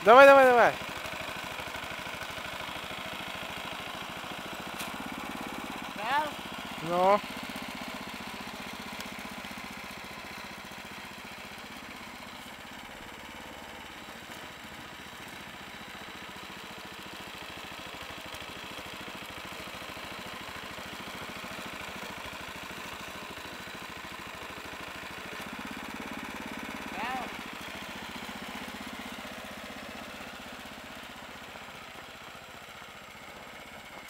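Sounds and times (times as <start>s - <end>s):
walk-behind tractor engine running: 0.0s - 34.0s.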